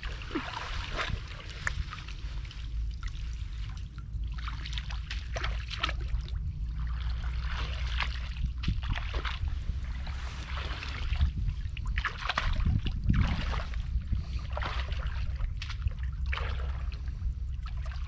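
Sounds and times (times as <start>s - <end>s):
shallow water splashing: 0.0s - 18.0s
steady low rumble: 0.0s - 18.0s.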